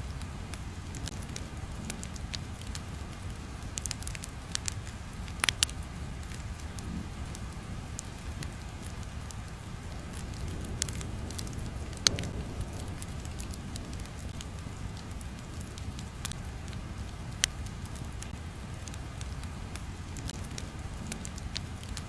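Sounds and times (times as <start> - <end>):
fire low rumble: 0.0 - 22.0
fire sharp pops: 0.1 - 22.0.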